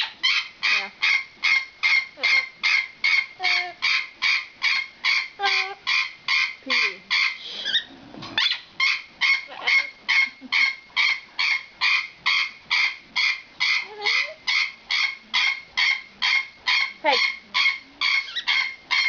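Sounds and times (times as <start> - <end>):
parrot squeaking: 0.0 - 19.0.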